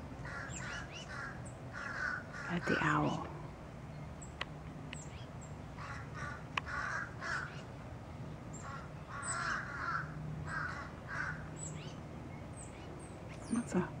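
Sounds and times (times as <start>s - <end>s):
blackbird alarm calls: 0.2s - 3.4s, 5.0s - 7.7s, 8.5s - 13.9s.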